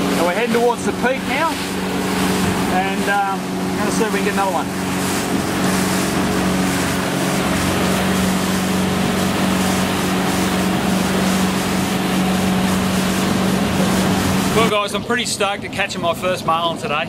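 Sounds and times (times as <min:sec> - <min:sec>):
outboard motor humming: 0:00.0 - 0:17.0
water rushing from wake: 0:00.0 - 0:17.0.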